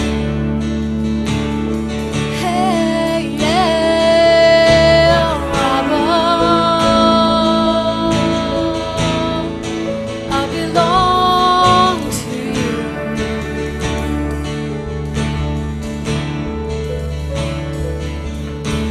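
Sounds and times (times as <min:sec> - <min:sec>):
sliding held melody notes: 0:00.0 - 0:18.9
strummed acoustic guitar: 0:00.0 - 0:18.9.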